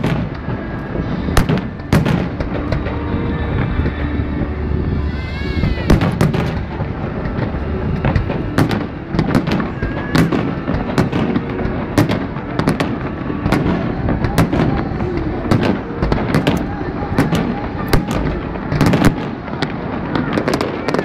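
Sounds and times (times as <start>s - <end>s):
continuous background din: 0.0s - 21.0s
fireworks bangs: 0.0s - 21.0s.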